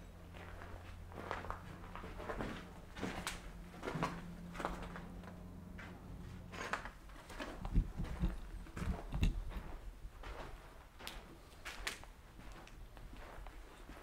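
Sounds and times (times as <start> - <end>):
footsteps walking indoors: 0.0 - 14.0.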